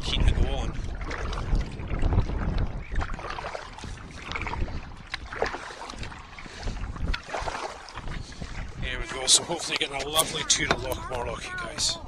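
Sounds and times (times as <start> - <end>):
paddle splashes and drips: 0.0 - 12.0
wind on microphone: 0.0 - 12.0.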